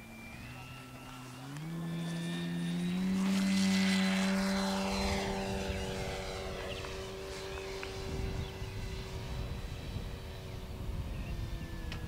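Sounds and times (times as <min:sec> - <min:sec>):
model airplane propeller drone: 0:00.0 - 0:12.0.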